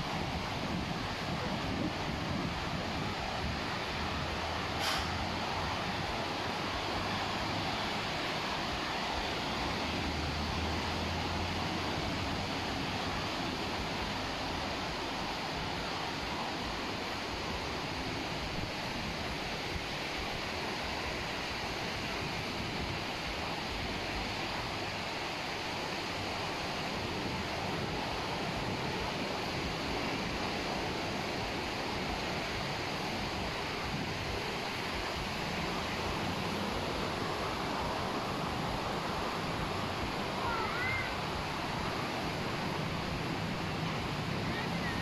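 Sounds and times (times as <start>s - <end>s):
surf washing on beach: 0.0s - 45.0s.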